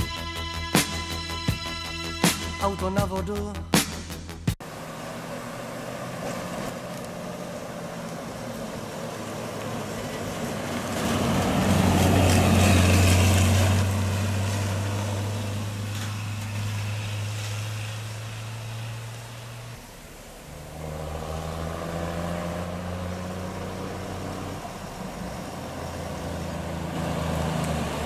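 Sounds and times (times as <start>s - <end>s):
rally car engine running: 0.0s - 28.0s.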